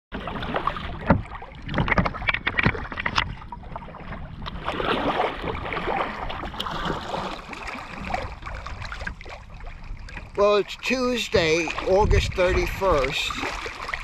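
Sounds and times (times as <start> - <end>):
water splashing against kayak hull: 0.1 - 14.0.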